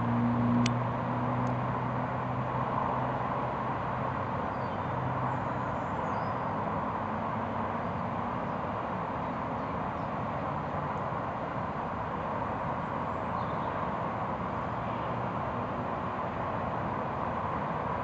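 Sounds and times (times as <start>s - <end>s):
distant engine hum: 0.0s - 18.0s
outdoor background noise: 0.0s - 18.0s.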